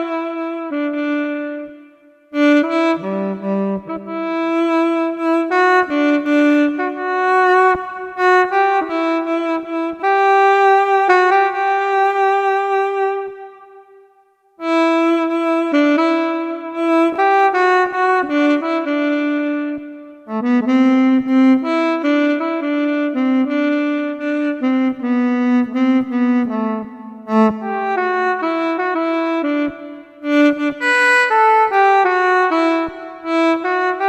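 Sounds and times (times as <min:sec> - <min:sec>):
saxophone melody: 0:00.0 - 0:34.0.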